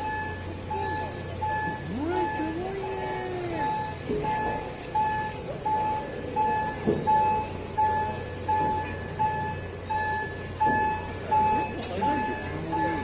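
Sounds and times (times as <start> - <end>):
railway warning signal beeping: 0.0 - 13.0.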